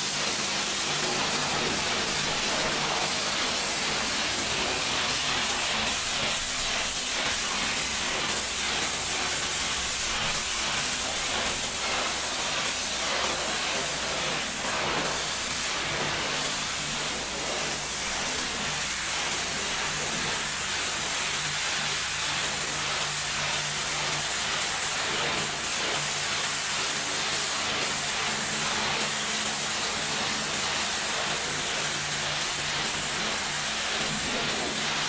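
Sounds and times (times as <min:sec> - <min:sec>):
pressure washer water spraying: 0:00.0 - 0:35.0.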